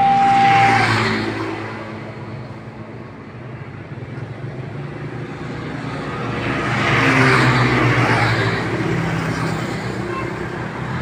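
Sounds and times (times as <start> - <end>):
motorcycles and scooters passing: 0.0 - 11.0.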